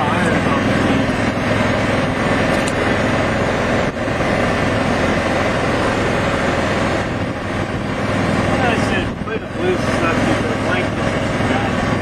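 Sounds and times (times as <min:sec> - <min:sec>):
golf cart running: 0:00.0 - 0:12.0
wind buffeting microphone: 0:00.3 - 0:12.0.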